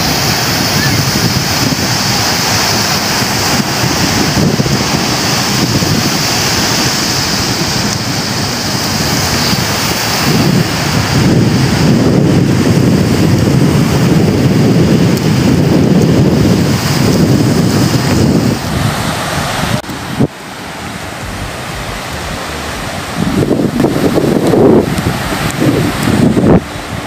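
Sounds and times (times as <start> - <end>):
surf washing onto beach: 0.0 - 27.0
wind buffeting microphone: 0.0 - 27.0.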